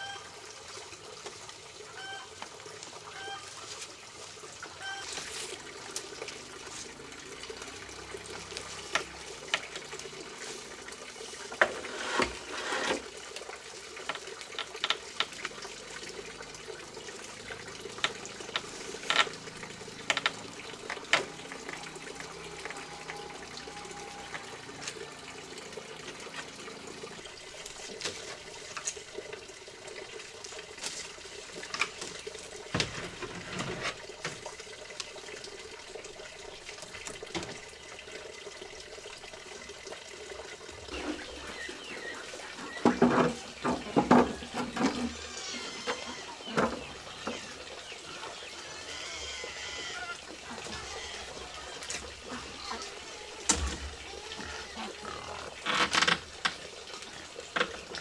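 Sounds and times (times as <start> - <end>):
water running: 0.0 - 58.0.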